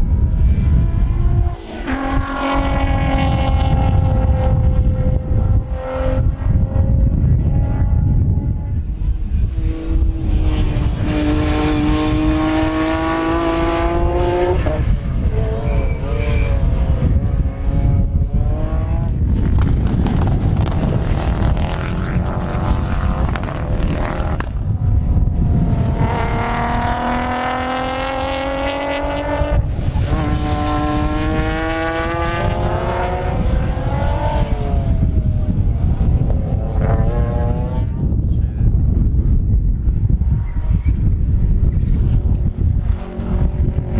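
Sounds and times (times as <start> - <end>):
wind rumble on microphone: 0.0 - 43.9
race cars accelerating: 0.1 - 38.0, 40.1 - 43.9.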